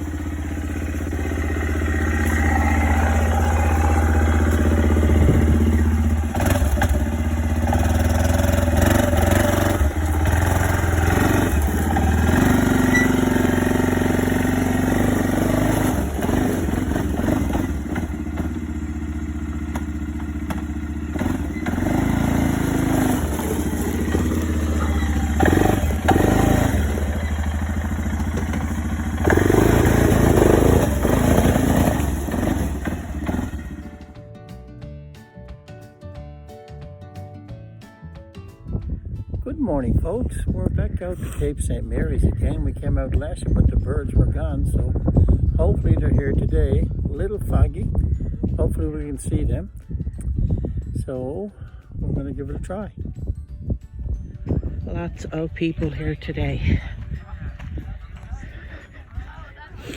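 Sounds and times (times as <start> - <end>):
engine running with low hum: 0.0 - 35.6, 36.2 - 59.9.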